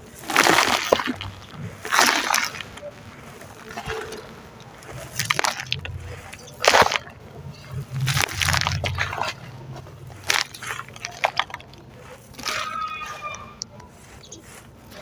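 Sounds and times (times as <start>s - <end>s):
sand-cement chunks crumbling: 0.0s - 15.0s.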